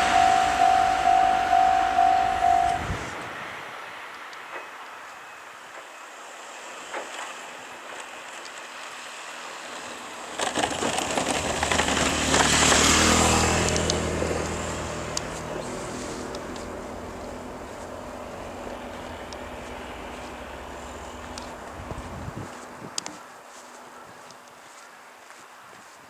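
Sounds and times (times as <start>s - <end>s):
vehicle engine and tyres passing: 0.0s - 4.7s, 6.4s - 23.4s.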